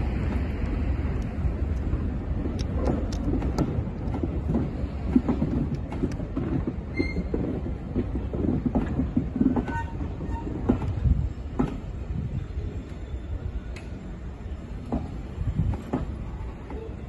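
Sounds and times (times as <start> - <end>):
train clanks and knocks: 0.0 - 17.0
train wheels rumbling: 0.0 - 17.0.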